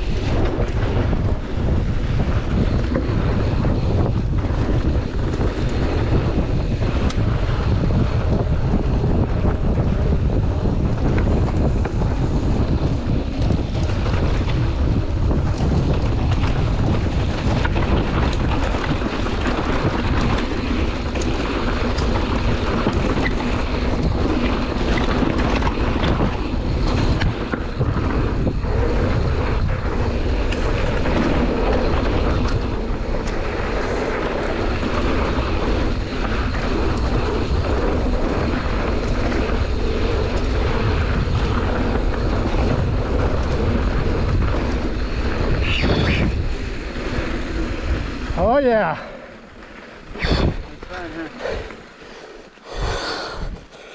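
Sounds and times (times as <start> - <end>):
bike knocking and rattling: 0.0 - 53.9
wind rushing over microphone: 0.0 - 53.9.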